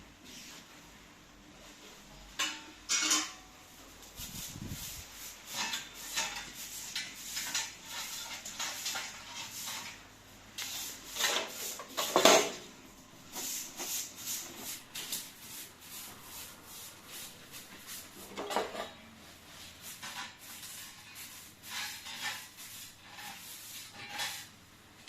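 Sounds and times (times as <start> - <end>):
household objects scraping and clattering: 1.8 - 25.0.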